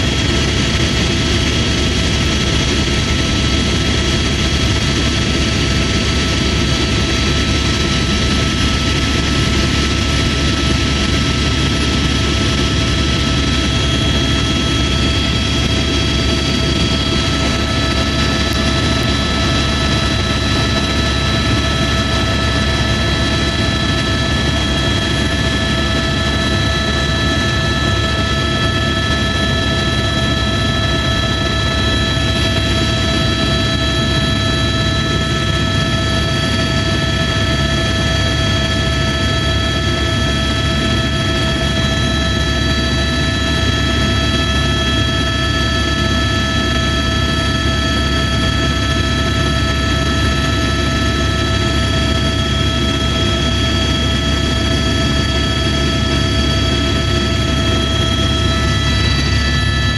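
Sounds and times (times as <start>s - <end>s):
helicopter rotor and engine: 0.0s - 59.9s
high whine: 0.0s - 59.9s.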